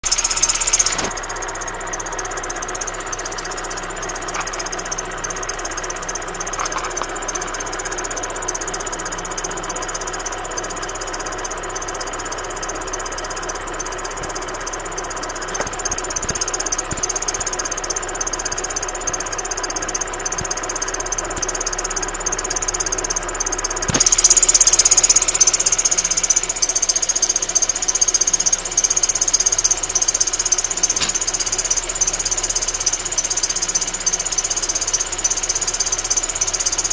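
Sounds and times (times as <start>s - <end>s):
car engine running: 0.0s - 36.9s
drive belt whistling: 0.0s - 36.9s.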